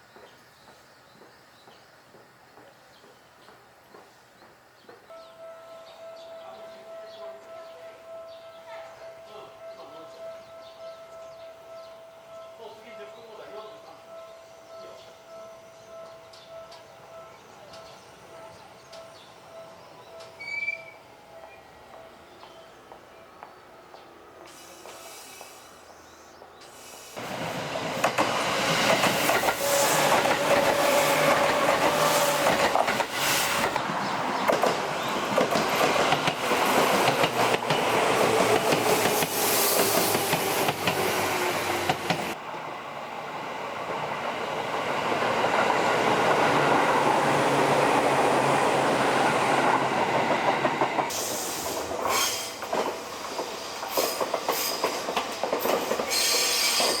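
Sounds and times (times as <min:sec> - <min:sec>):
electric train running past: 0:00.1 - 0:57.0.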